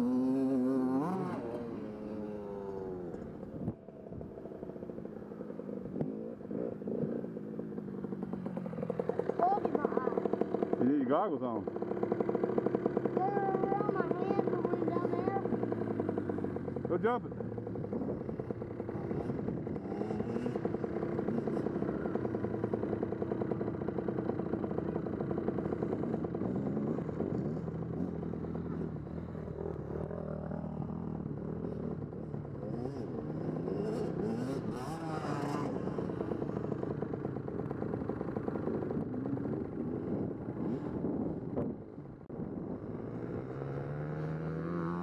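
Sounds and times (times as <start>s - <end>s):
dirt bike engines idling: 0.0s - 45.0s
dirt bikes revving past: 0.0s - 45.0s.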